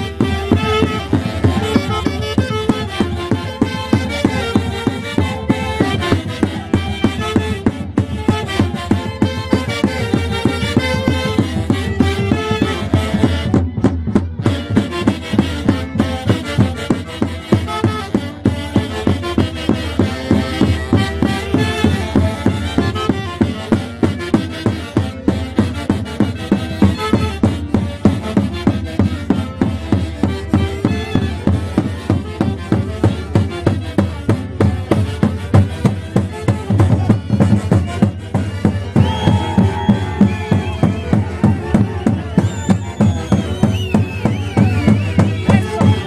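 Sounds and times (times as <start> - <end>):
orchestra playing folk music: 0.0 - 46.0
steady drum beat: 0.0 - 46.0.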